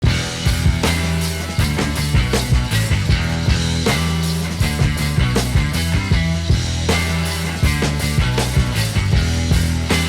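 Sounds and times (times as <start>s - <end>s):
rock music with drums: 0.0s - 10.0s.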